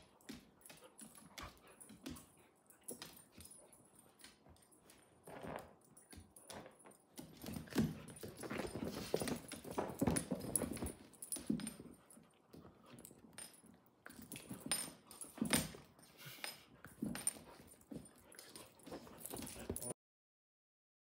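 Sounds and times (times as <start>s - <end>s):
dogs play-fighting noises: 0.0s - 20.0s.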